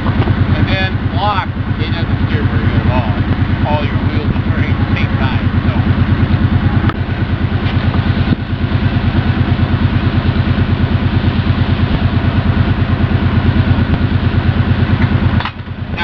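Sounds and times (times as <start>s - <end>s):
atv engine idling: 0.0s - 16.0s.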